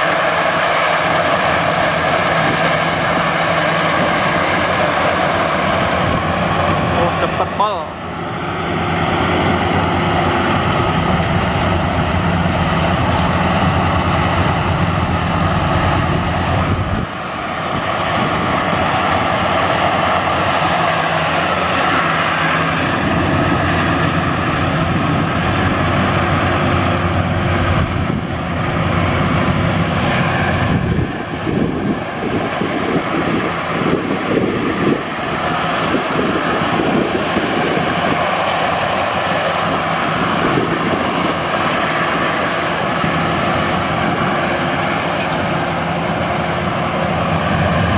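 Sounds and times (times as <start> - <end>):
combine harvester engine running: 0.0 - 47.9.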